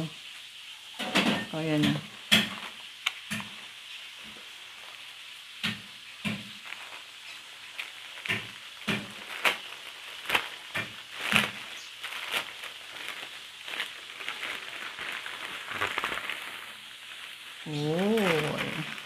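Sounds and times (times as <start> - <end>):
plastic bag crinkling: 2.0 - 19.0.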